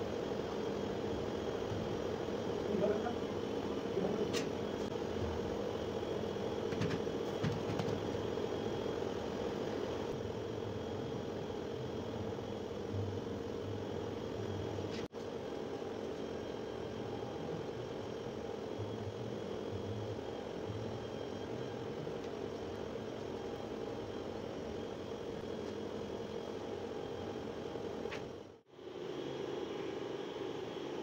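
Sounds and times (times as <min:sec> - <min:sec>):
background hum and hiss: 0:00.0 - 0:31.0.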